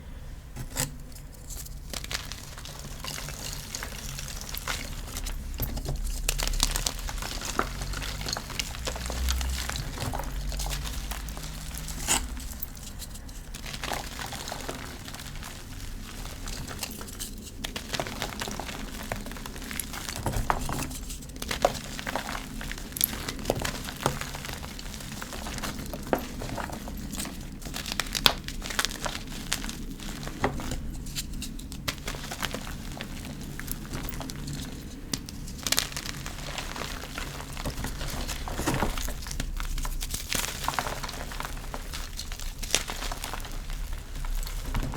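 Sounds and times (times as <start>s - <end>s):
chalk crunching and crackling: 0.6s - 44.9s.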